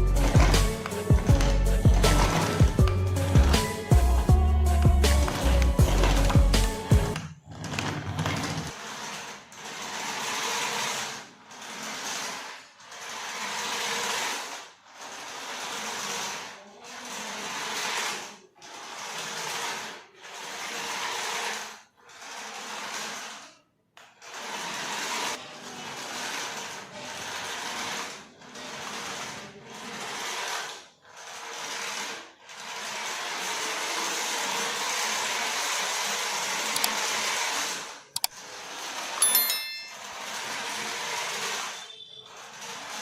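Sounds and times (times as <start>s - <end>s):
toy electric motor whirring: 0.0s - 43.0s.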